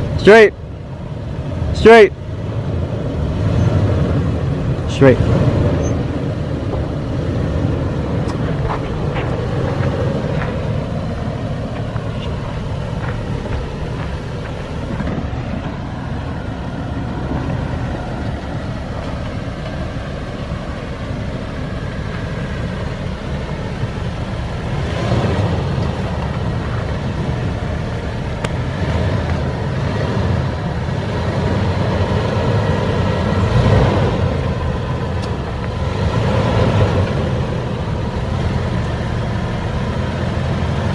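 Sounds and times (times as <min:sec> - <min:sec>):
truck engine at low speed: 0:00.0 - 0:40.9.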